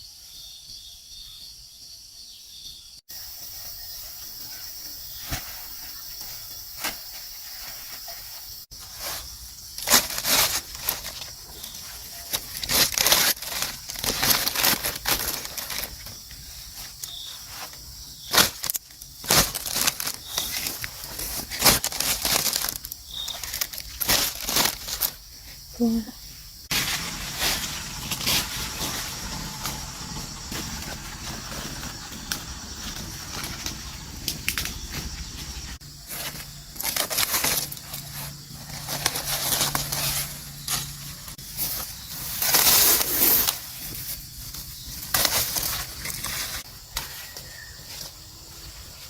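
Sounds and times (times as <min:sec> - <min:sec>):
insect chorus: 0:00.0 - 0:49.0
rustling and crackling: 0:03.1 - 0:49.0.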